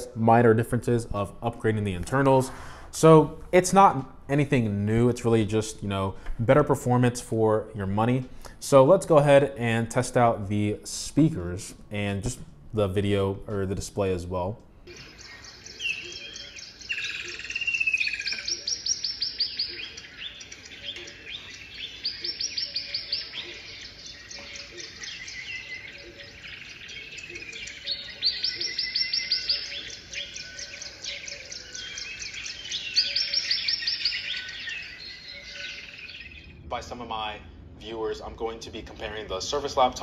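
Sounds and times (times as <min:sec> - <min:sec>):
birdsong chirping and trills: 0:00.0 - 0:40.0.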